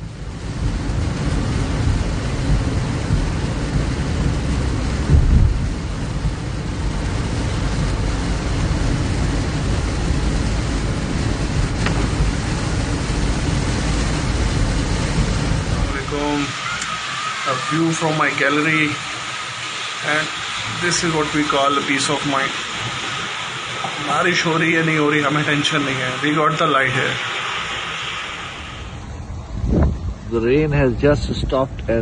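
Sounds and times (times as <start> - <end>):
heavy rain: 0.0 - 30.3
low rumble: 0.0 - 32.0.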